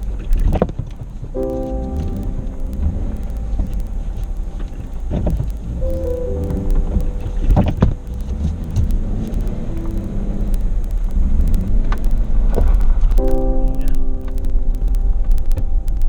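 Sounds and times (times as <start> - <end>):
held music notes: 1.3 - 16.0.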